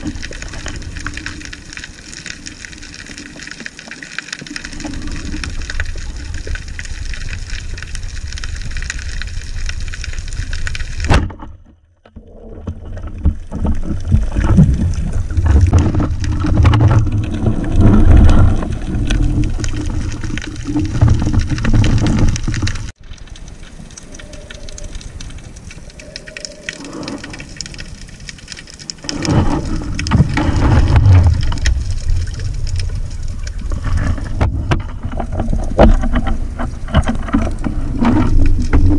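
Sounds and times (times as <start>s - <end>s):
crackling hiss of sea underwater: 0.0s - 11.1s, 12.2s - 38.9s
low rumbling and knocking of water: 4.6s - 38.9s.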